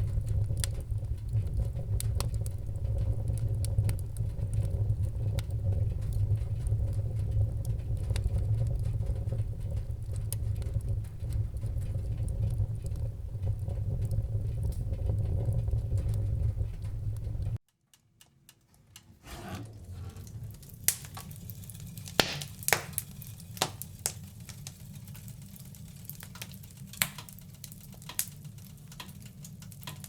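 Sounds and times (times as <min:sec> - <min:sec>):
fire roaring in fireplace: 0:00.0 - 0:17.6, 0:18.5 - 0:30.0
fire crackling and popping: 0:00.0 - 0:30.0.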